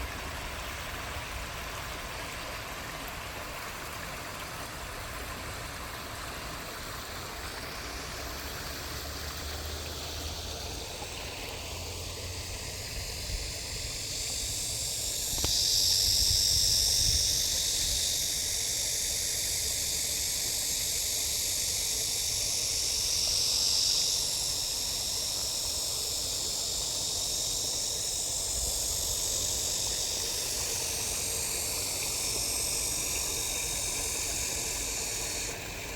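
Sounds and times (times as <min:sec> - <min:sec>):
stream running: 0:00.0 - 0:35.9.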